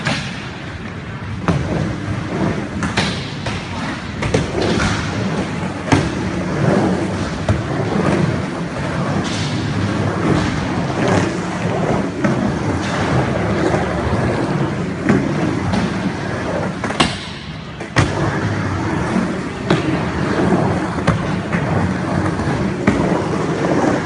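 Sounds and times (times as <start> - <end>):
skateboard wheels rolling: 0.0 - 24.0.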